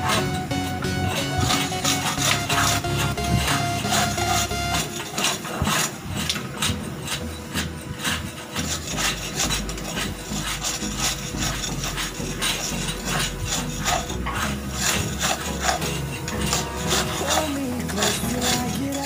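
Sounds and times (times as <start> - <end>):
hand scraper rasping on hull: 0.1 - 19.0.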